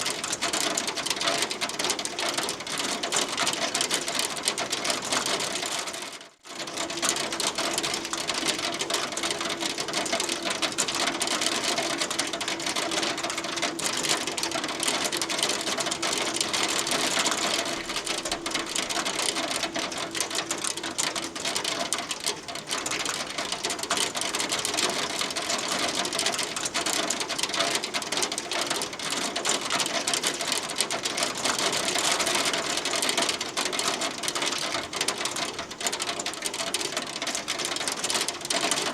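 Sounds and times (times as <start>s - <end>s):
hail pattering on a surface: 0.0s - 38.9s.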